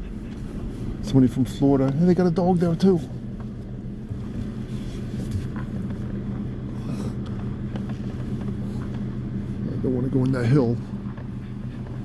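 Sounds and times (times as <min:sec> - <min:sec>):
car engine hum: 0:00.0 - 0:12.0.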